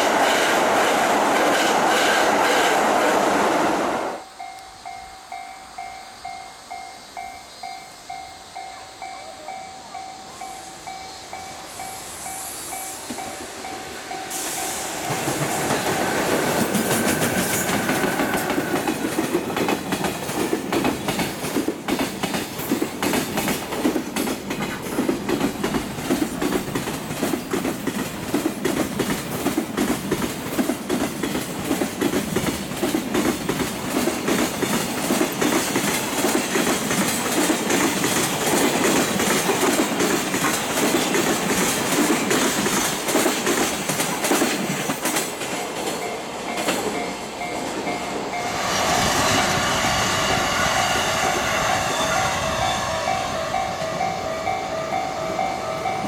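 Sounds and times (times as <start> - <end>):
train wheels clattering: 11.0 - 56.0.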